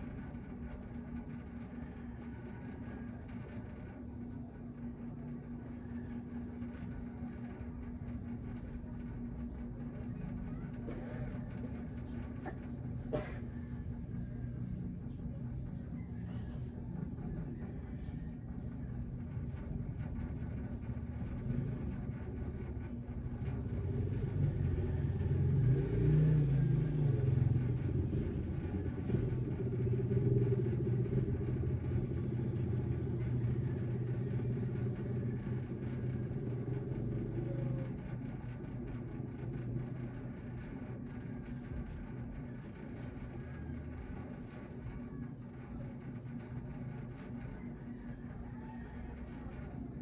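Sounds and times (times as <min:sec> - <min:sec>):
vehicle engine rumble: 0:00.0 - 0:50.0.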